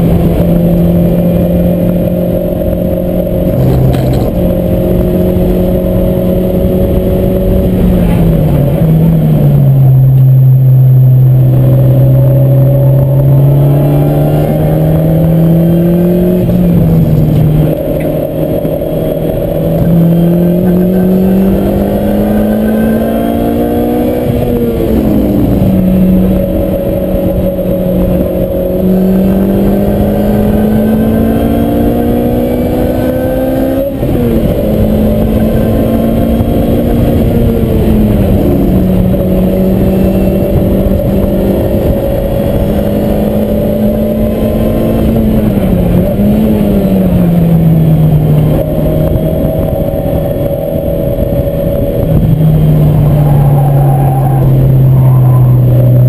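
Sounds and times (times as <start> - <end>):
car engine running hard: 0.0 - 56.0.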